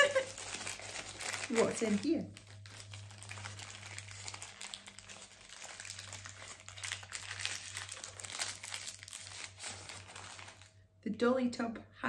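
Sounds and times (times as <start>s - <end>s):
paper bag crinkling and rustling: 0.0s - 10.8s
low steady hum: 0.0s - 12.0s.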